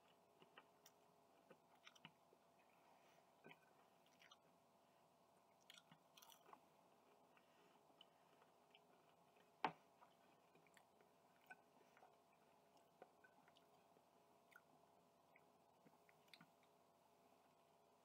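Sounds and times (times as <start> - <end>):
faint chewing and mouth sounds: 0.0 - 18.0.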